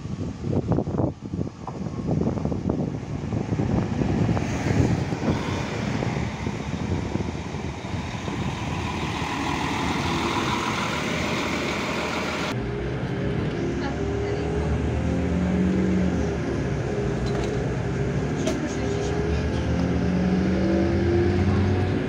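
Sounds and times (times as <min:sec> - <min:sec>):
diesel railcar rumbling: 0:00.0 - 0:22.0.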